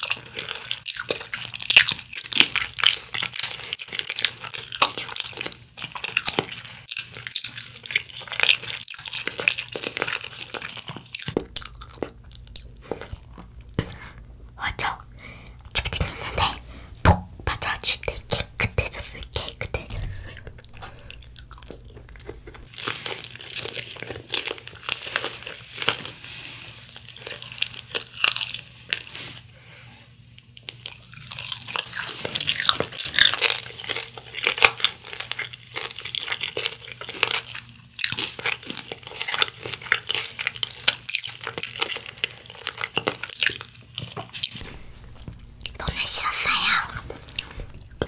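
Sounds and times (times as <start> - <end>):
crunching and chewing fried chicken: 0.0 - 14.5, 18.0 - 48.0.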